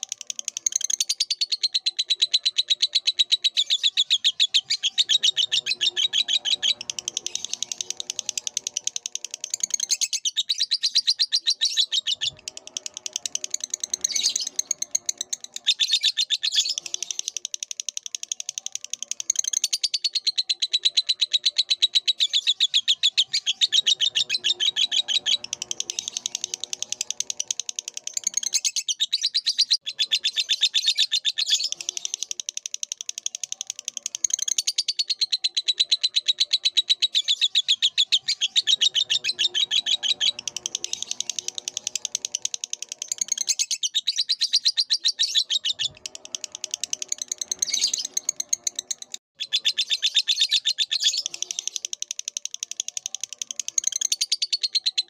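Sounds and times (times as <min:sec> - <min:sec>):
bird chattering high chirps: 0:00.0 - 0:55.0.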